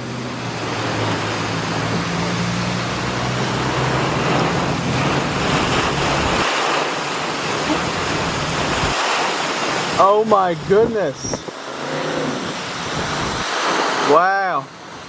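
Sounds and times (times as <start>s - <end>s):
heavy rain: 0.0s - 15.0s
strong wind gusts: 0.2s - 14.2s.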